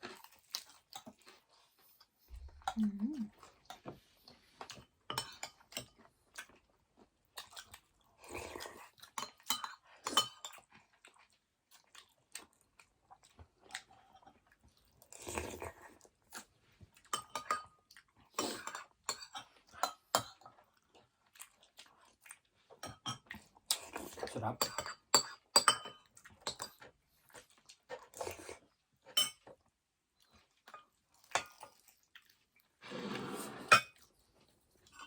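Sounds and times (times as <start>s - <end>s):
chewing and crunching food: 0.0s - 32.8s, 33.9s - 35.0s.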